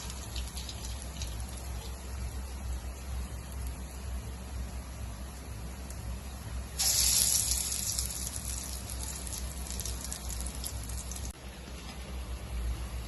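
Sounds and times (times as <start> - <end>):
batter sizzling in hot oil: 0.0 - 11.4.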